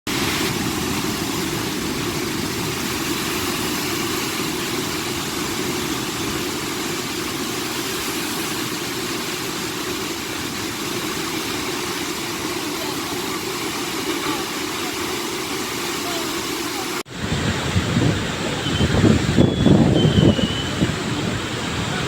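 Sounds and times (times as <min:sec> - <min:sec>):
heavy falling water rushing: 0:00.1 - 0:22.0.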